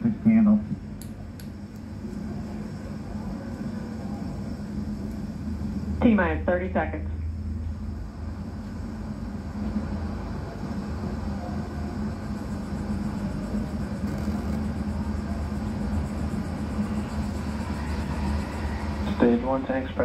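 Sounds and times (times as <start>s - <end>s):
low rumble and hum from tv: 0.0s - 20.0s.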